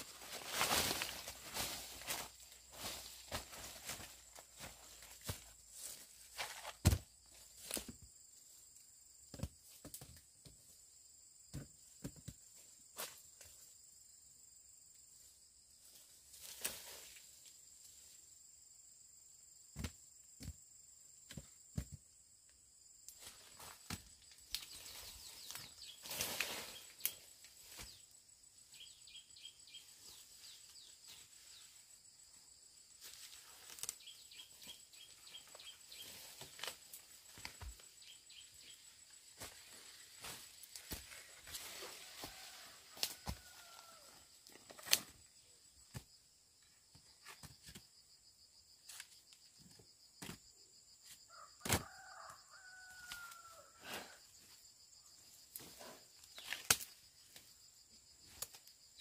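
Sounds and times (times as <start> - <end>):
high insect drone: 10.6 - 59.0.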